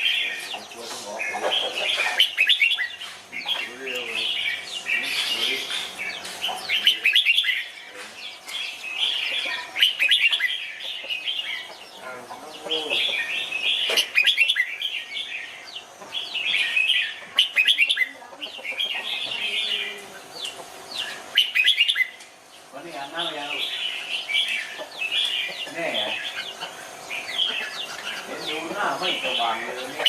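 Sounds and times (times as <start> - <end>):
bird singing warbling phrases: 0.0 - 30.0.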